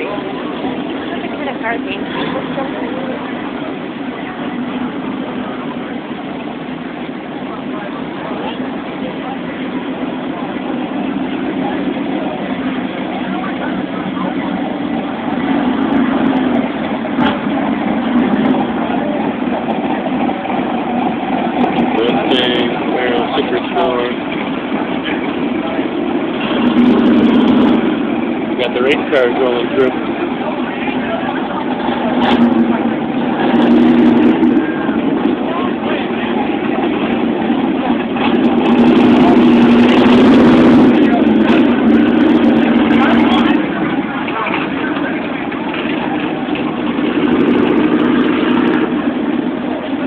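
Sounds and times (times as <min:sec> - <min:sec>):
cars cruising past: 0:00.0 - 0:50.0.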